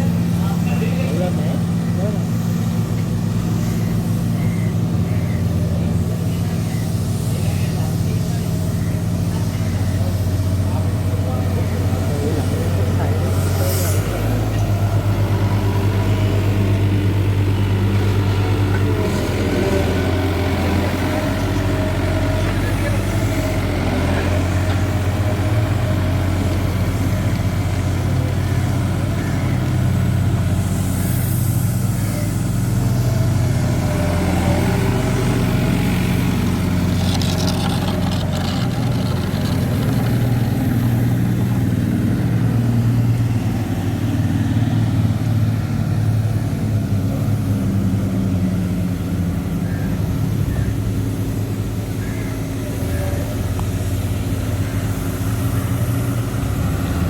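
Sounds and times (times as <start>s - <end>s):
road roller engine running: 0.0s - 57.0s.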